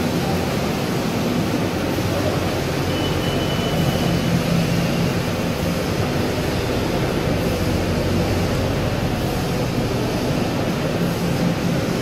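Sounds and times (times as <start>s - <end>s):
conveyor belt running: 0.0s - 12.0s
fans running: 0.0s - 12.0s
machine whirring: 0.0s - 12.0s.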